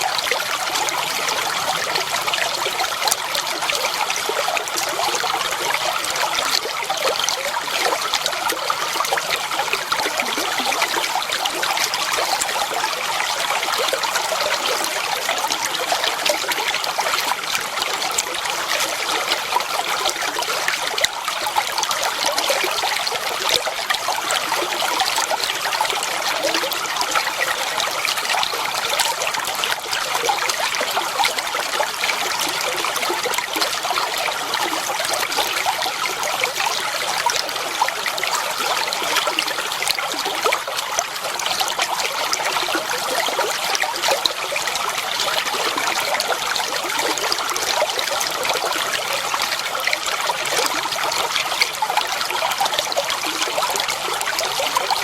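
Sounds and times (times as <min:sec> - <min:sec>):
water flowing and trickling: 0:00.0 - 0:55.0.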